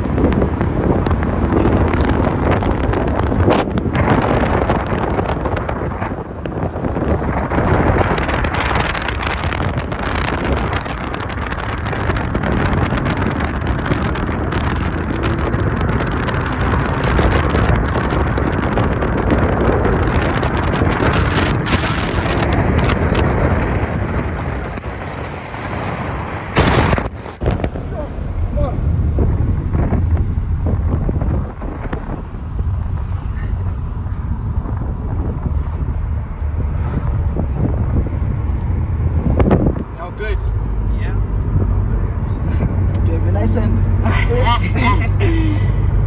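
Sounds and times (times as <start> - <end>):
car wind and road noise: 0.0 - 46.0
wind buffeting microphone: 0.0 - 46.0.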